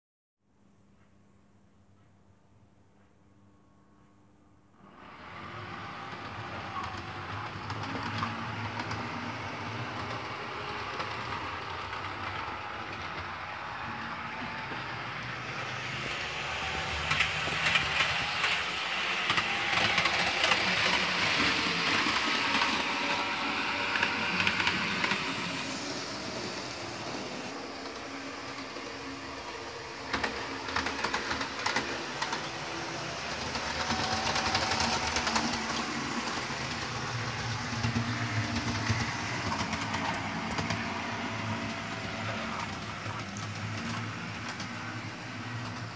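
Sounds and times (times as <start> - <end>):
model train running: 4.9 - 45.9.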